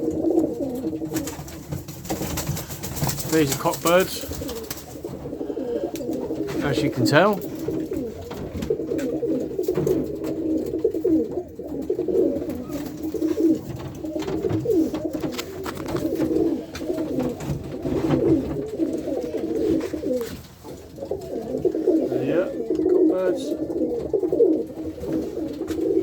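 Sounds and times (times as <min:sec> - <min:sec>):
pigeons cooing: 0:00.0 - 0:26.0.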